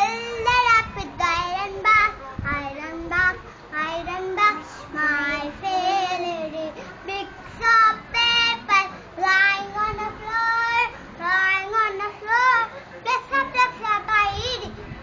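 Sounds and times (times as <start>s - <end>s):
boy singing unaccompanied: 0.0s - 15.0s.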